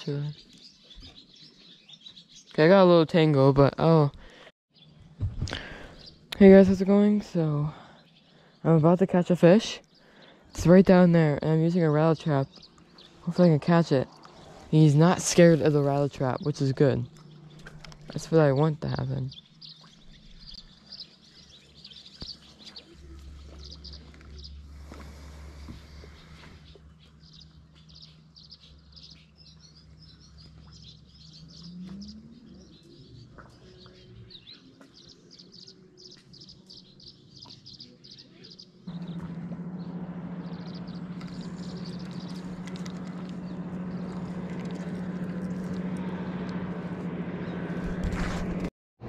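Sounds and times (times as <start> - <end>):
small birds chirping: 0.0 - 48.0
low motor drone: 5.0 - 48.7.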